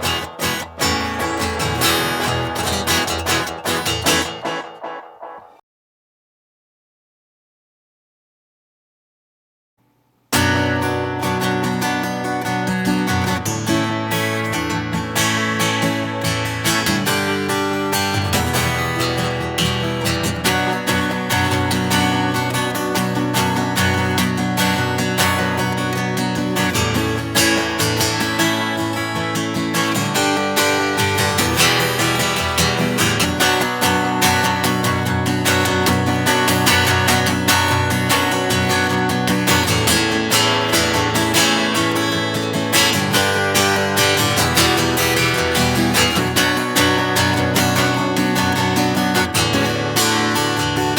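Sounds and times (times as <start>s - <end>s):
acoustic guitar strummed chords: 0.0s - 5.6s, 10.3s - 50.9s.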